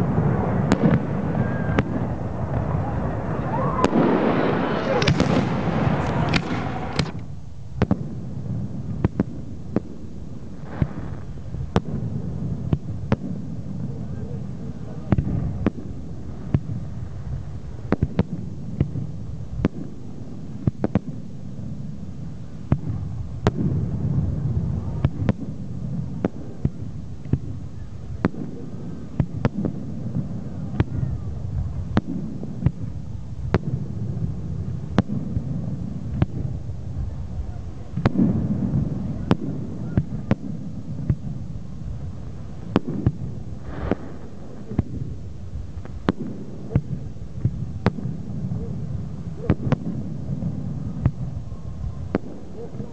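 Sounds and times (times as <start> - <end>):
fireworks bangs and pops: 0.0 - 52.9
low rumble of fireworks: 0.0 - 52.9.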